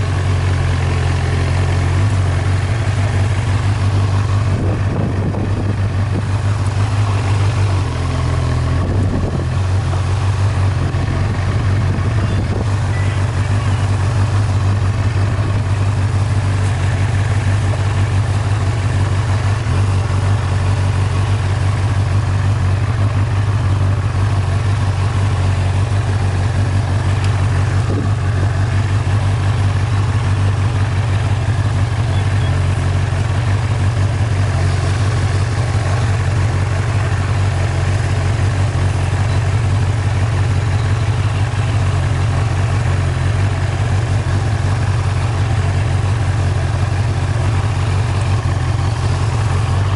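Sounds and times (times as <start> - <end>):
vehicle engine droning at low speed: 0.0 - 49.9.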